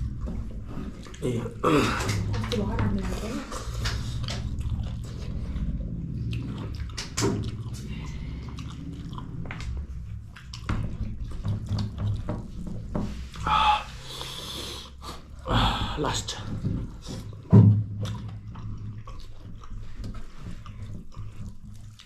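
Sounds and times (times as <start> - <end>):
wet chewing and smacking: 0.0 - 15.4, 16.8 - 22.0.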